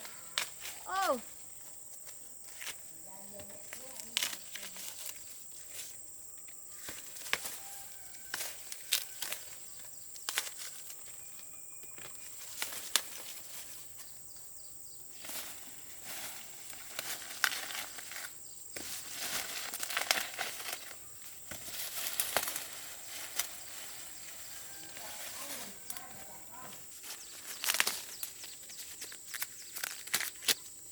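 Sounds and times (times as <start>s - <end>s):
dry material snapping and rustling: 2.0s - 5.9s, 6.8s - 11.2s, 11.8s - 14.1s, 15.1s - 30.9s.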